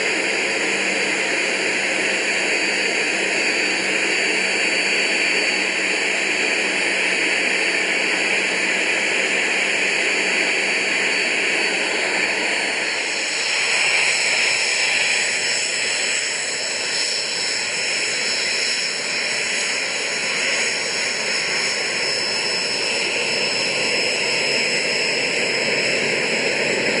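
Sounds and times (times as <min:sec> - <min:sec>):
jet engine roar in cockpit: 0:00.0 - 0:27.0
jet engine rushing hiss: 0:00.0 - 0:27.0.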